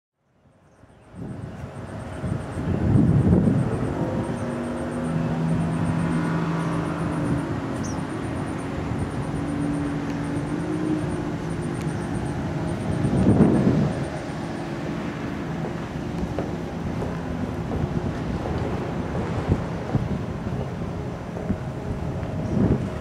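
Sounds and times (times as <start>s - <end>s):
low mechanical hum: 0.4s - 23.0s.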